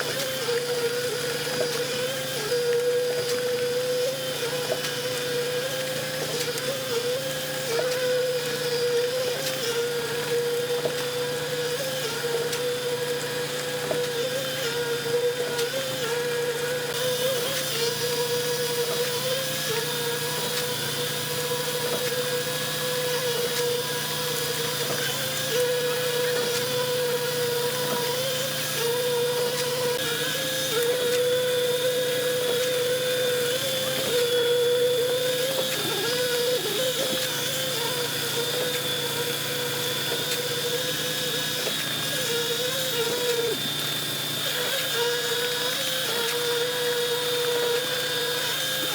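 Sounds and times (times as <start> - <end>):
rough mechanical noise: 0.0 - 48.9.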